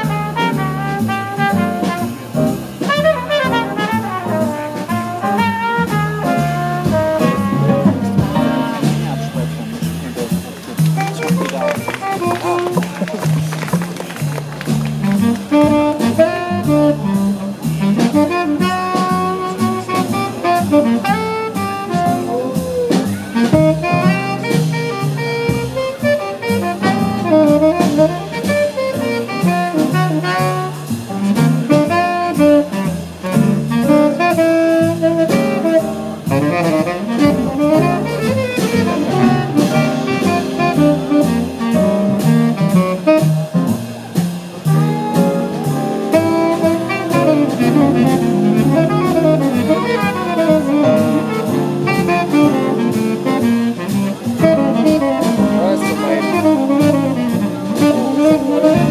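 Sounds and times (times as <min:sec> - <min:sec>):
saxophone solo: 0:00.0 - 0:43.9, 0:44.6 - 0:58.9
double bass: 0:00.0 - 0:58.9
drums: 0:00.0 - 0:58.9
horn sections: 0:00.0 - 0:58.9.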